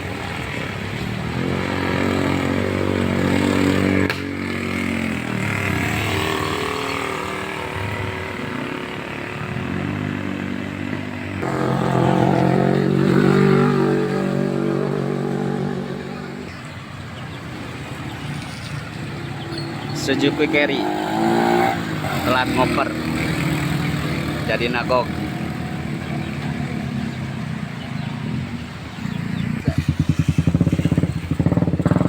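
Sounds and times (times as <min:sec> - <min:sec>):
vehicle engines labouring uphill: 0:00.0 - 0:32.0.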